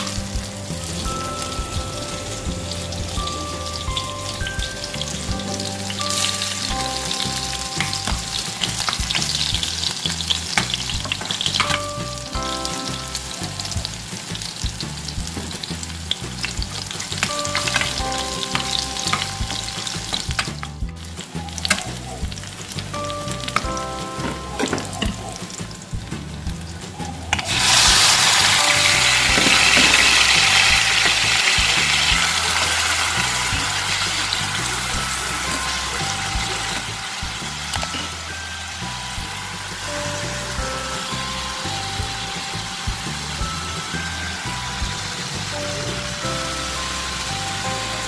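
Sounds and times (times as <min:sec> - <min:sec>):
vegetables sizzling in oil: 0:00.0 - 0:26.8, 0:27.4 - 0:48.0.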